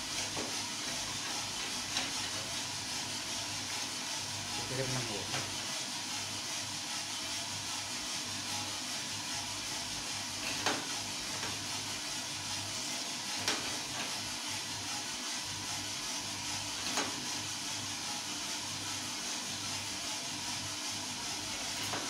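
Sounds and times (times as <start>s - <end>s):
coffee roaster hiss: 0.0s - 22.0s.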